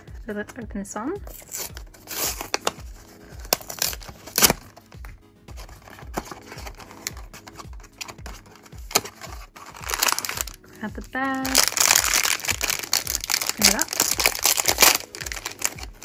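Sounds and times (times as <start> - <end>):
background music with steady beat: 0.0 - 16.0
cardboard tearing and rustling: 1.3 - 4.8, 5.6 - 10.7, 11.3 - 16.0.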